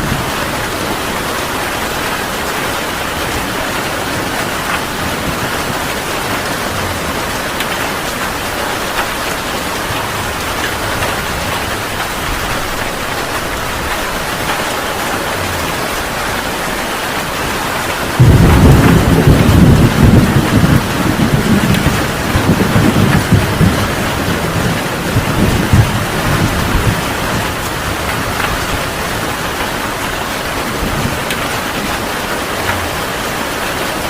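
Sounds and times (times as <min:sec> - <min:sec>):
thunderclap rumbling: 0:00.0 - 0:33.8
heavy rain falling: 0:00.0 - 0:34.0.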